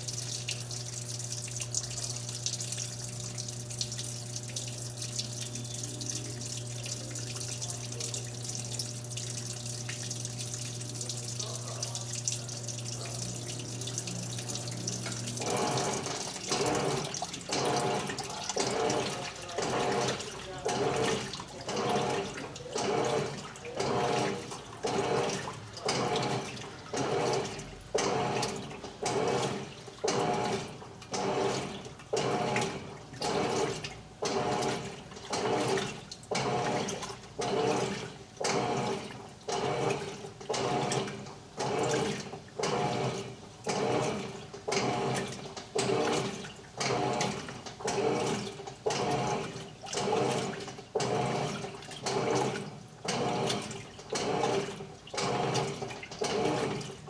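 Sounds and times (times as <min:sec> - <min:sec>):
washing machine water sloshing: 0:00.0 - 0:57.0.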